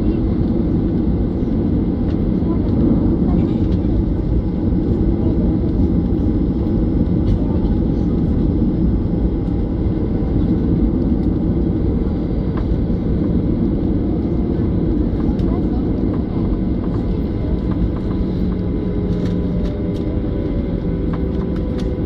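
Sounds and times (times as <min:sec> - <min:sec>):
jet engines rumbling in cabin: 0:00.0 - 0:22.0.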